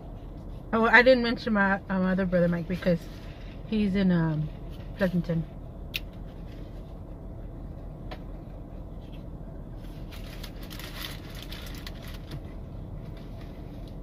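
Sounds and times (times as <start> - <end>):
low hum inside a car: 0.0 - 14.0.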